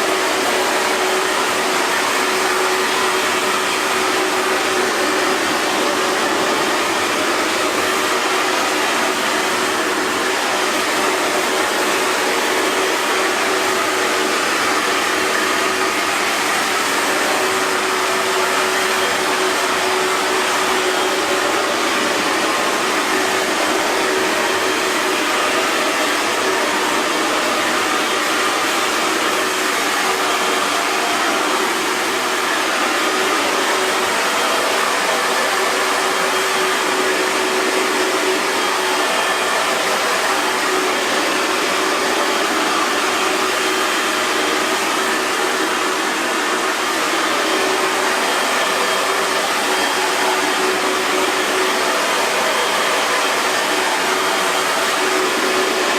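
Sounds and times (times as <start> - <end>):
hair dryer running: 0.0 - 55.9.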